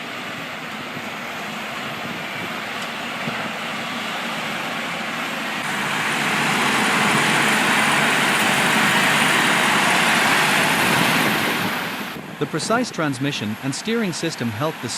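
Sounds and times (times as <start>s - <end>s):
heavy diesel machine running: 0.0s - 14.9s.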